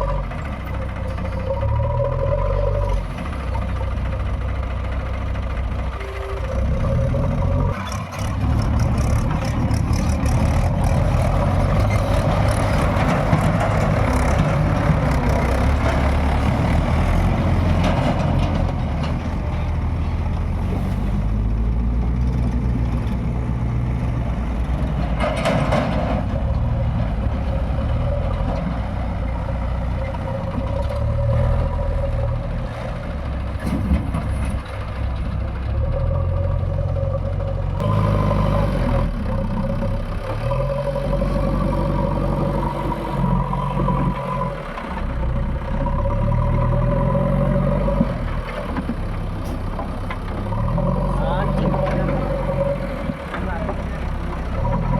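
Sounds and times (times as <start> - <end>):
heavy diesel engine under load: 0.0 - 54.9.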